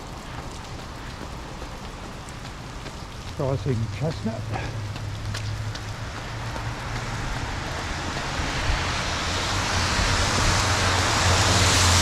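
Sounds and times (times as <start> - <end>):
traffic rumble: 0.0 - 12.0
tyres hissing on wet road: 0.0 - 12.0.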